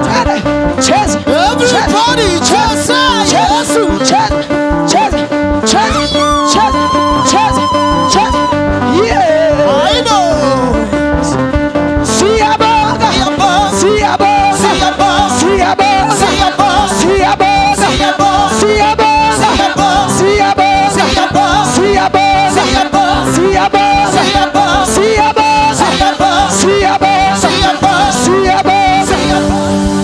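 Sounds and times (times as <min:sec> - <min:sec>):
gospel music with singing: 0:00.0 - 0:30.0.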